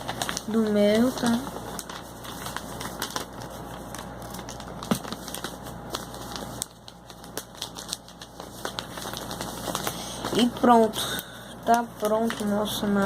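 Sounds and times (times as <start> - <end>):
paper being folded and crinkling: 0.0 - 13.0.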